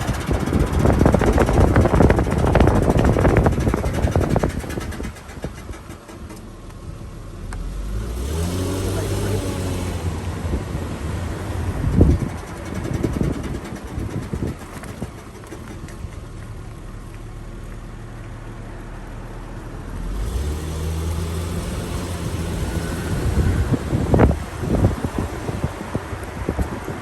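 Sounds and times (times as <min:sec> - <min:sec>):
car engine revving: 0:00.0 - 0:06.4, 0:07.3 - 0:16.1, 0:20.0 - 0:27.0
harsh rattling grinding noise: 0:00.0 - 0:06.7, 0:08.4 - 0:16.8, 0:20.2 - 0:27.0.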